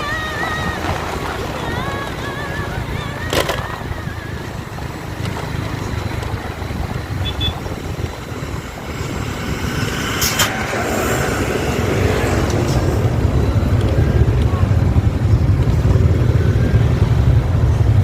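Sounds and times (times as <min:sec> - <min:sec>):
motor vehicle engine rumbling: 0:00.0 - 0:18.0.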